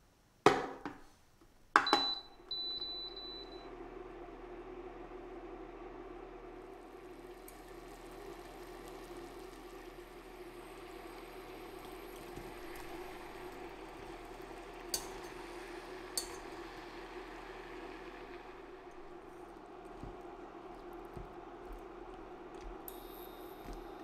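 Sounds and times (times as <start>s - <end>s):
syrup bubbling in saucepan: 4.0s - 24.0s.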